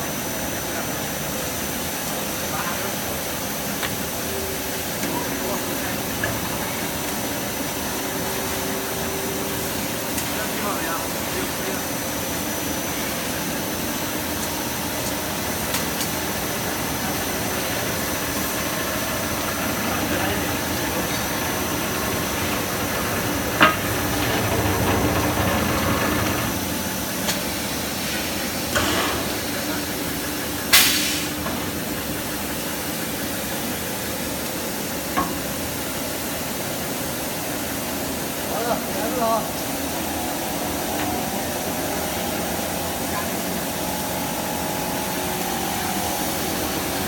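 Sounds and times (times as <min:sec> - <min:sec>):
wire-drawing machine running: 0:04.2 - 0:33.9, 0:38.5 - 0:47.0.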